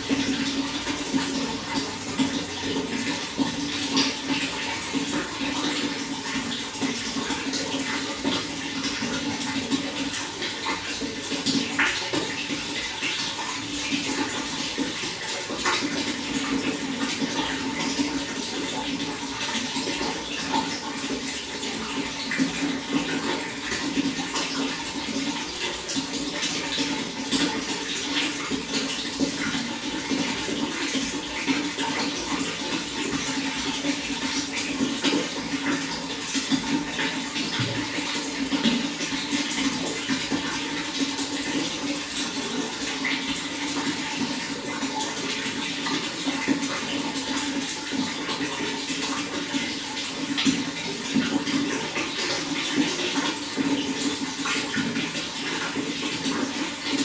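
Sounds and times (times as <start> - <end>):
running water splashing: 0.0 - 57.0.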